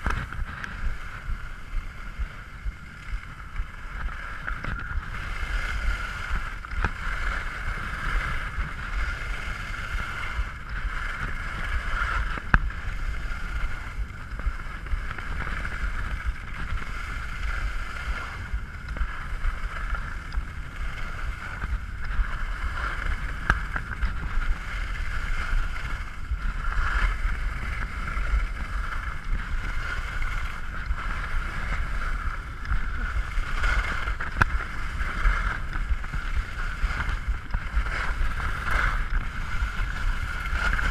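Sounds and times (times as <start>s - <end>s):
skis scraping over snow: 0.0s - 40.9s
wind rumbling on microphone: 0.0s - 40.9s.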